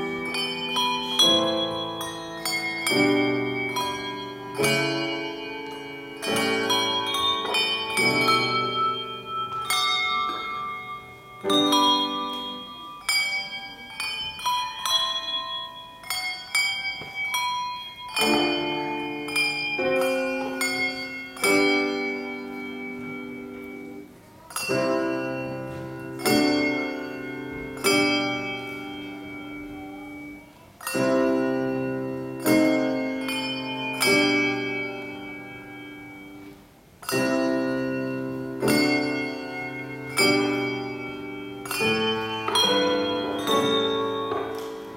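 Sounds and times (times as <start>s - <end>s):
handbells ringing: 0.0s - 44.9s.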